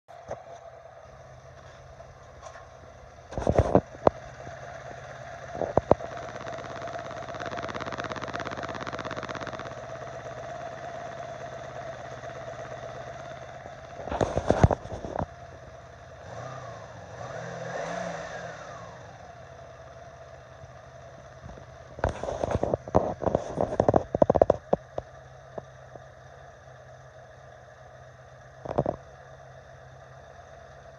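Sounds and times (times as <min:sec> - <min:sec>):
engine ticking: 0:00.1 - 0:30.9
motorcycle engine running: 0:00.1 - 0:30.9.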